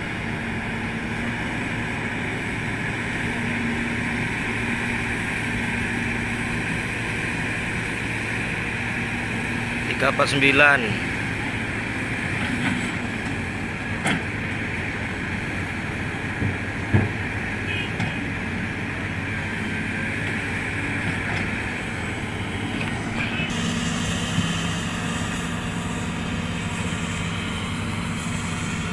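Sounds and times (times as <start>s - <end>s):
excavator diesel engines running: 0.0s - 28.9s.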